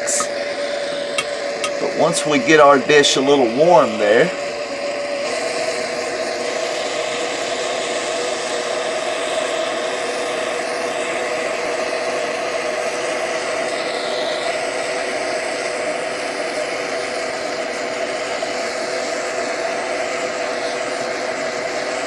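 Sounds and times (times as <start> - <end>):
torch flame rushing: 0.0 - 22.0.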